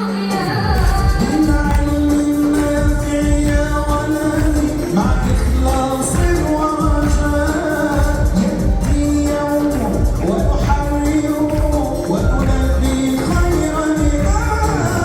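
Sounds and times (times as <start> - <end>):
backing music with heavy bass: 0.0 - 15.0
man singing long notes: 1.2 - 15.0.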